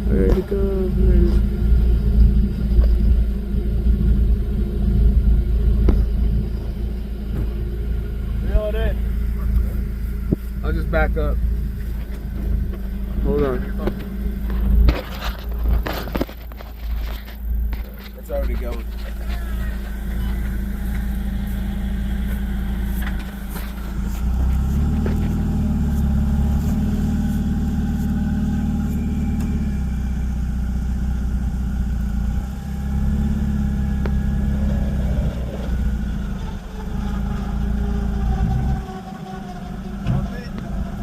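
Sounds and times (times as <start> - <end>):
jeep engine running: 0.0 - 41.0.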